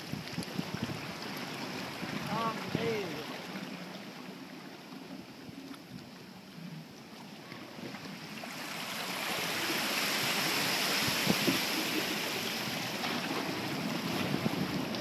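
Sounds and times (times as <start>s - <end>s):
seawater surging through rocks: 0.0s - 15.0s.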